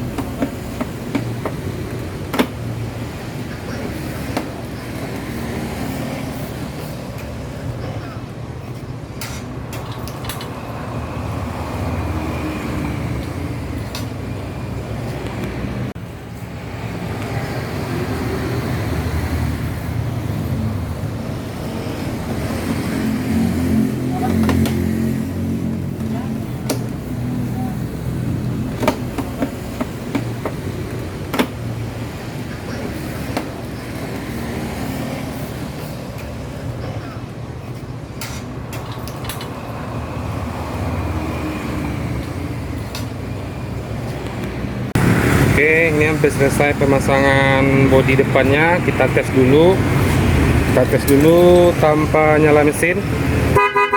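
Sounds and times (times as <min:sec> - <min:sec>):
vehicle rumble: 0:00.0 - 0:53.9.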